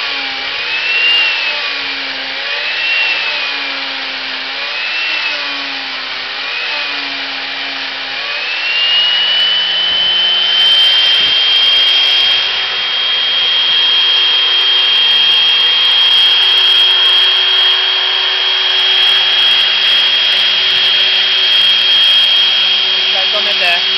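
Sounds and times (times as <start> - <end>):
router bit cutting wood: 0.0 - 23.9
router motor whine: 0.0 - 23.9.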